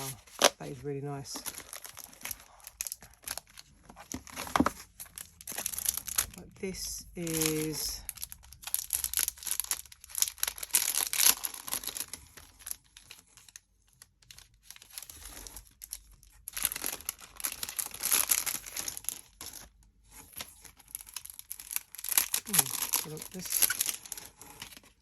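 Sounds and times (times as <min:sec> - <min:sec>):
packaging crinkling and tearing: 0:00.0 - 0:25.0.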